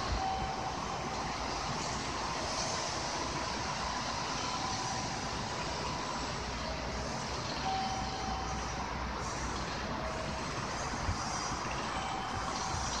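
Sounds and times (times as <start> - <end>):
faint whining tones: 0.0 - 13.0
railway station rumble: 0.0 - 13.0.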